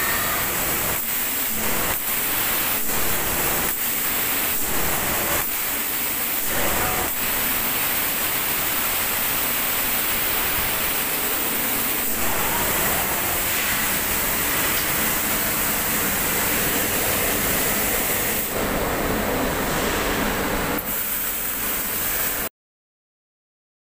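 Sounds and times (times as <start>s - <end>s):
spray gun hissing: 0.0s - 22.5s.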